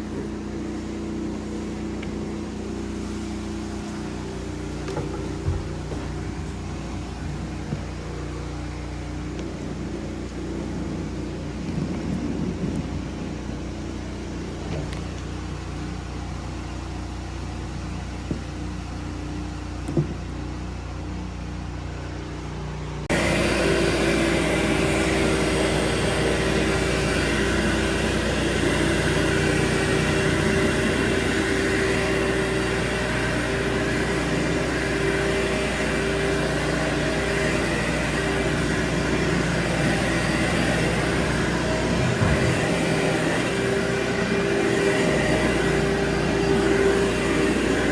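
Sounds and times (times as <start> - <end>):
carpet-cleaning machinery drone: 0.0 - 47.9
motor with high whine: 0.0 - 47.9
pressure washer hiss: 0.0 - 47.9.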